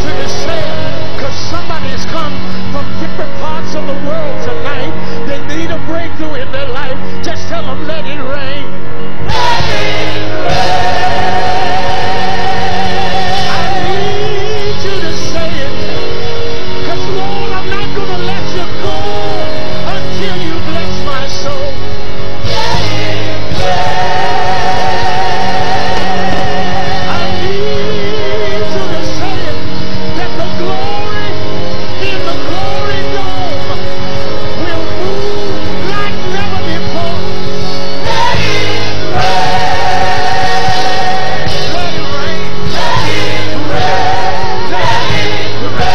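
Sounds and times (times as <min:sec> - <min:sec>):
gospel choir and band: 0:00.0 - 0:07.5, 0:09.0 - 0:45.9
steady held chords: 0:00.0 - 0:45.9.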